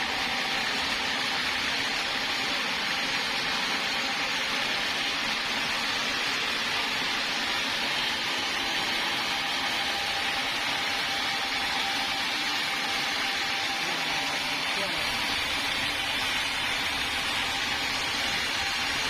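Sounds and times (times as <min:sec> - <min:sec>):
sawmill saw running: 0:00.0 - 0:19.0.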